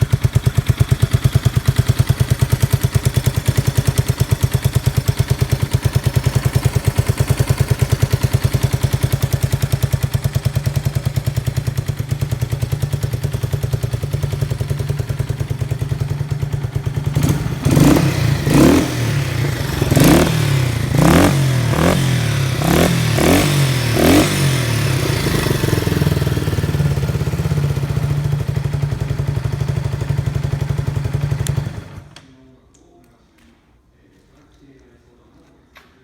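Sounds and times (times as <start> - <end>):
motorcycle engine idling and revving: 0.0 - 32.1.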